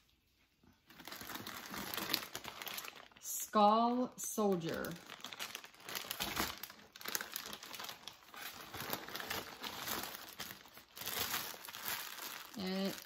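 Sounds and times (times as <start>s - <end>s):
plastic packaging crinkling: 0.6s - 3.6s, 4.3s - 13.0s.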